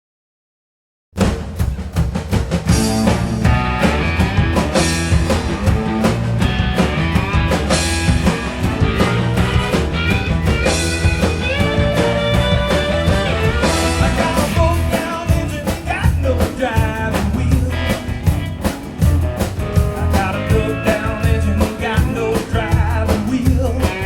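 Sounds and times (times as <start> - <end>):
rock band playing: 1.2 - 24.0
steady drum beat: 1.2 - 24.0
electric guitar: 2.7 - 24.0.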